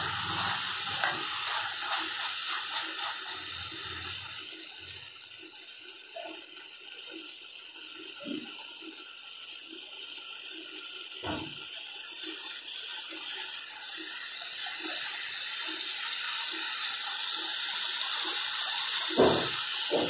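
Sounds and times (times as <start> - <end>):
food frying hiss: 0.0 - 20.0.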